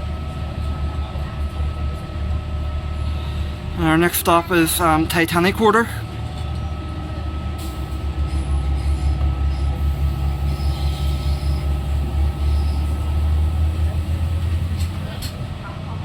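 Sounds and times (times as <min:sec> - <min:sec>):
train low hum: 0:00.0 - 0:16.0.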